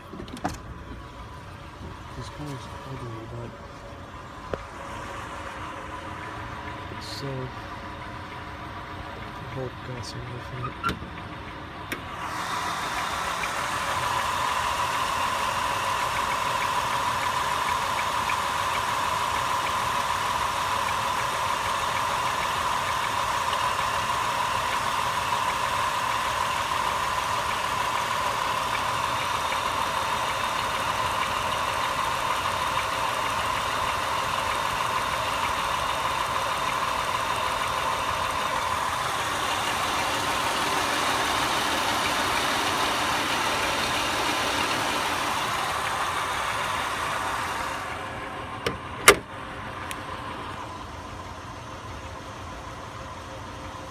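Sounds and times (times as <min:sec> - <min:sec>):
rough car engine idling with knock: 0:00.0 - 0:53.9.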